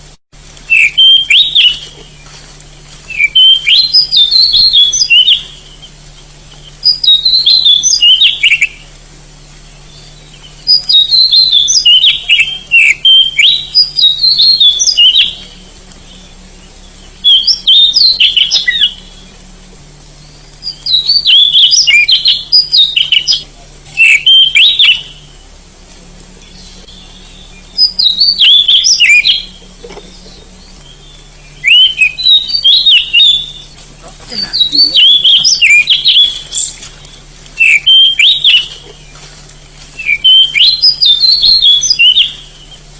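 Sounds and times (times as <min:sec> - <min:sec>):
bird singing whistled phrases: 0:00.7 - 0:02.2, 0:03.1 - 0:06.0, 0:06.6 - 0:08.9, 0:09.7 - 0:19.4, 0:20.2 - 0:25.5, 0:26.4 - 0:39.1, 0:40.0 - 0:42.9.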